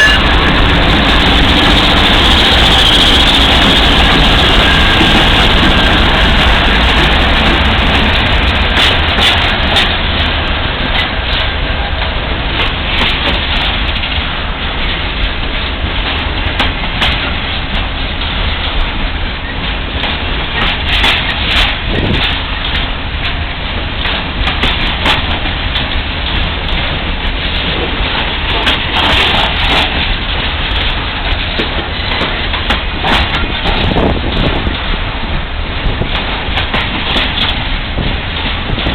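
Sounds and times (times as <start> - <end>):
freight train rumbling past: 0.0 - 38.9
wheels clacking on rail: 0.0 - 38.9
wind noise on microphone: 0.0 - 38.9.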